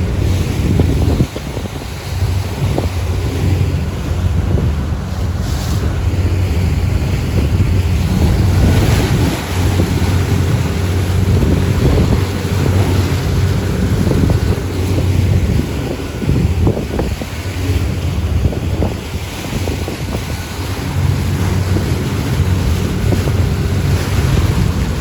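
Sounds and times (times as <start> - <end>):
motorboat engine humming: 0.0 - 25.0
water rushing past hull: 0.0 - 25.0
wind buffeting microphone: 0.0 - 25.0.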